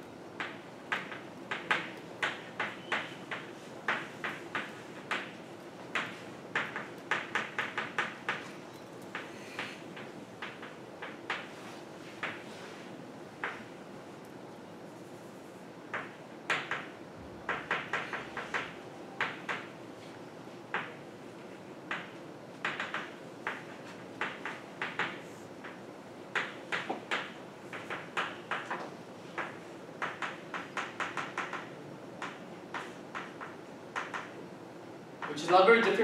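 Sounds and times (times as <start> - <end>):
room noise: 0.0 - 36.0.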